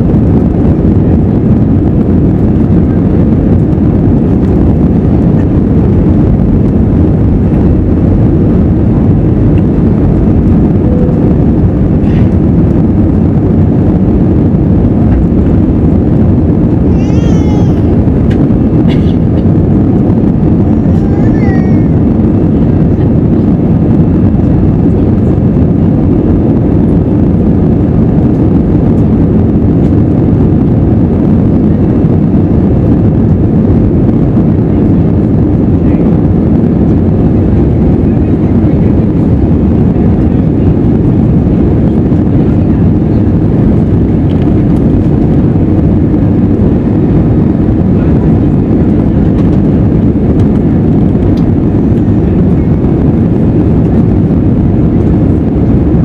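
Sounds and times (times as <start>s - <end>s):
jet engines at takeoff power: 0.0s - 56.0s.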